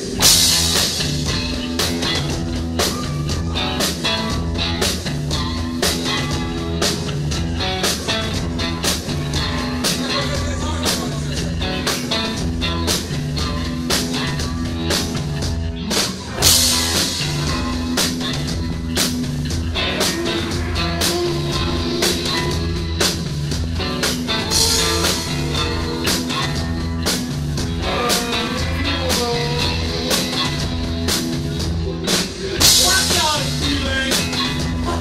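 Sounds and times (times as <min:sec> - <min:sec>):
bass guitar: 0:00.0 - 0:35.0
drum kit beat: 0:00.0 - 0:35.0
electric guitar: 0:00.0 - 0:35.0.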